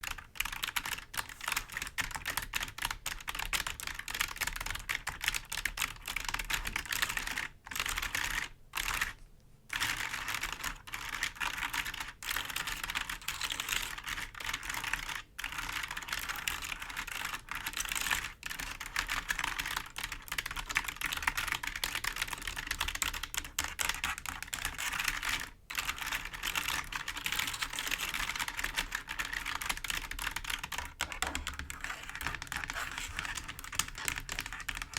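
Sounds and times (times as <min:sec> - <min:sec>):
typing on clicky keyboard: 0:00.0 - 0:09.1, 0:09.7 - 0:34.9.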